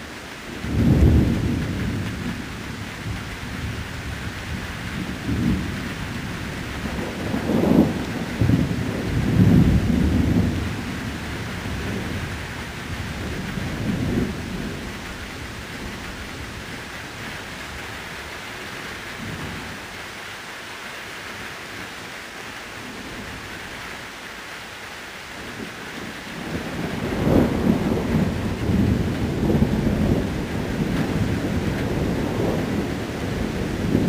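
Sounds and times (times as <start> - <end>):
steady rain: 0.0 - 34.0
thunder rumbling: 0.5 - 19.8, 25.4 - 34.0.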